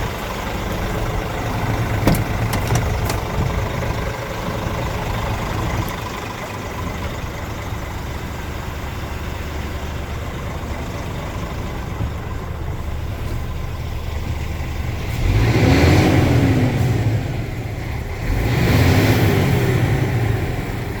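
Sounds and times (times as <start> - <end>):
diesel truck engine idling and revving: 0.0 - 21.0.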